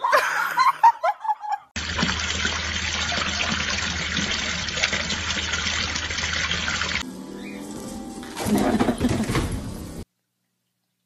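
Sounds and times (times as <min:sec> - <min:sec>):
running trickling water: 0:01.8 - 0:11.0.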